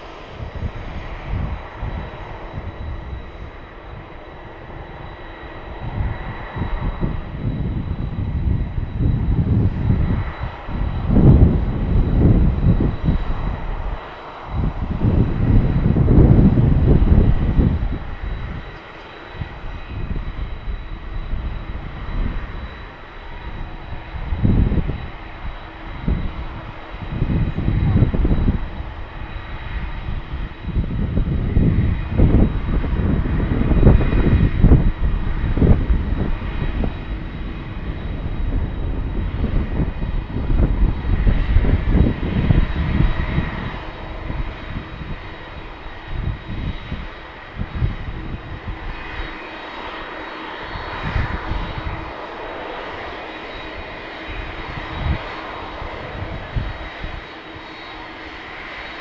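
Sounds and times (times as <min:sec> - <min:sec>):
gusty low rumble: 0:00.0 - 0:59.0
jet engine whine: 0:00.0 - 0:59.0.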